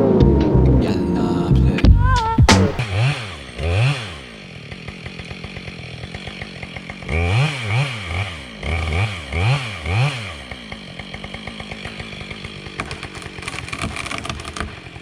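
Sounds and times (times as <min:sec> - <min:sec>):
chainsaw idling and revving: 0:02.8 - 0:15.0.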